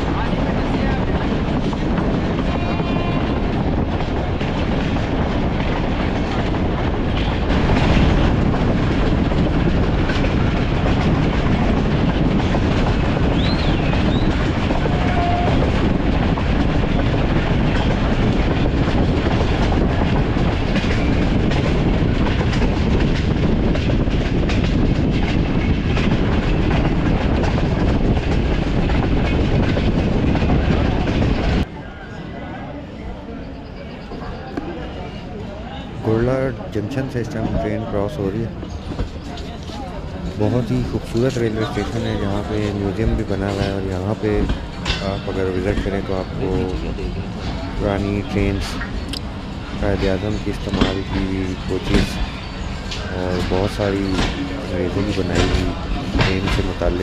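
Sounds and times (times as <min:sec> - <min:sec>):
wheels clicking over rail joints: 0:00.0 - 0:31.7, 0:37.2 - 0:57.0
rushing wind: 0:00.0 - 0:57.0
train wheels rumbling on rails: 0:00.0 - 0:57.0.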